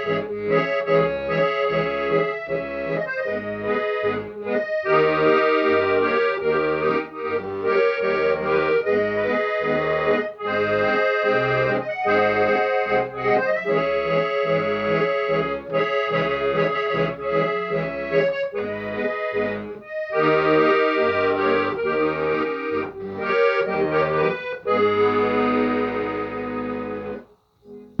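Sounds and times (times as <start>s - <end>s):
accordion playing lively tune: 0.0s - 28.0s
bass and chord accompaniment: 0.0s - 28.0s.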